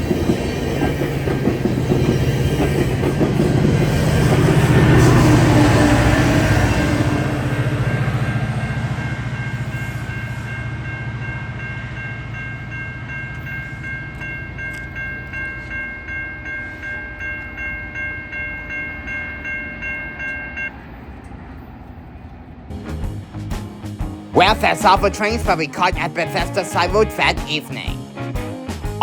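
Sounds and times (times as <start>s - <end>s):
crossing warning bells ringing: 0.0s - 22.3s, 24.0s - 28.2s
train rumbling: 0.0s - 29.0s.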